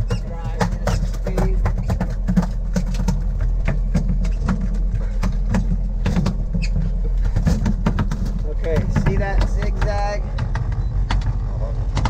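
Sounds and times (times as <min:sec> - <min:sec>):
short knocks and clicks: 0:00.0 - 0:11.4
boat engine rumbling: 0:00.0 - 0:12.0.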